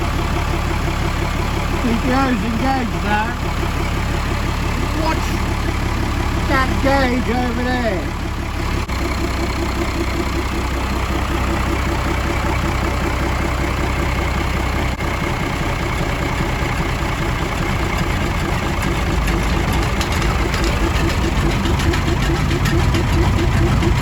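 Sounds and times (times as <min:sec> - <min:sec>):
engine running generator hum: 0:00.0 - 0:24.0.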